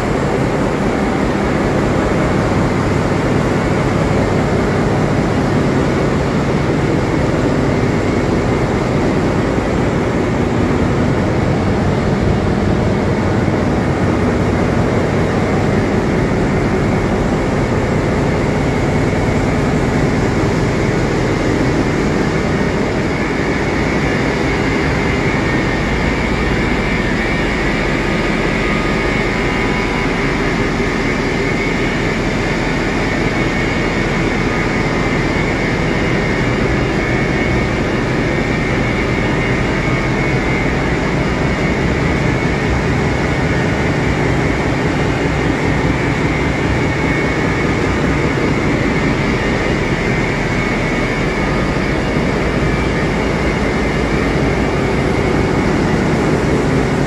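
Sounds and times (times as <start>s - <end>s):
engine room machinery roar: 0.0s - 57.0s.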